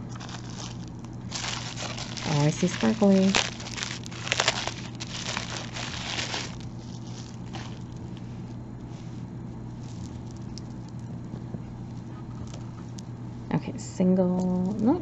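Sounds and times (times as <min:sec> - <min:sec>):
bubble wrap bag crinkling: 0:00.0 - 0:13.2, 0:14.4 - 0:15.0.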